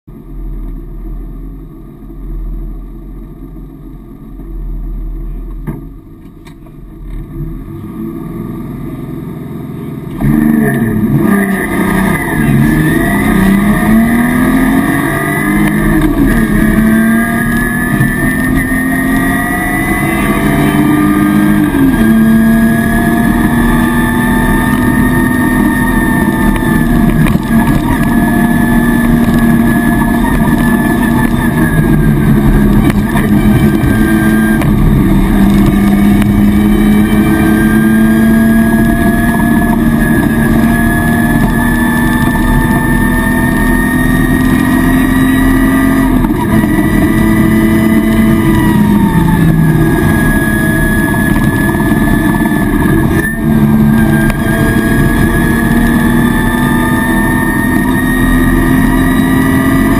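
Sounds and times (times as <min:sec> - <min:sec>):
rally car engine revving: 0:00.1 - 0:59.9.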